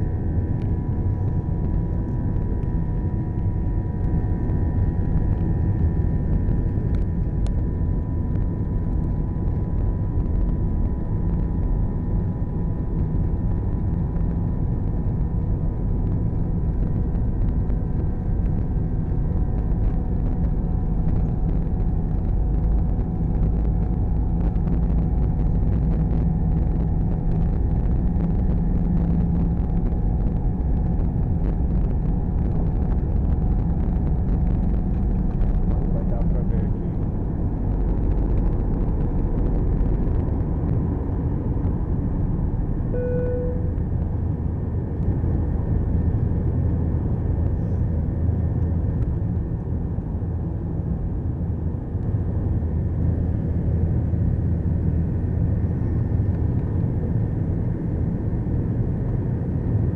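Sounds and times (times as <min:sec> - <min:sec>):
jet engine deep rumble: 0:00.0 - 0:59.9
steady whining tones: 0:00.0 - 0:59.9.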